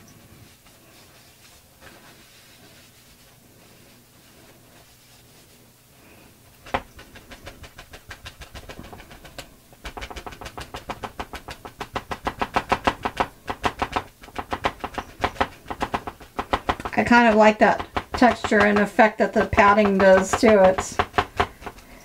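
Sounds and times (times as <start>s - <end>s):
patting wet paint with wipe: 0.4s - 5.7s, 6.6s - 22.0s.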